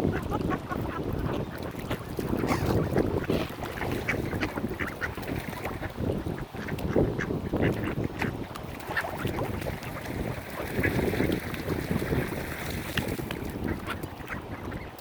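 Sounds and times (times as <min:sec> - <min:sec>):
ducks quacking: 0:00.0 - 0:12.4, 0:13.2 - 0:15.0.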